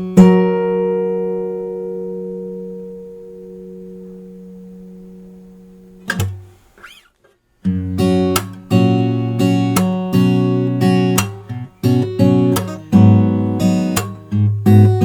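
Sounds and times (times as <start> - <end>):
acoustic guitar strummed chords: 0.0 - 6.9, 7.6 - 15.0.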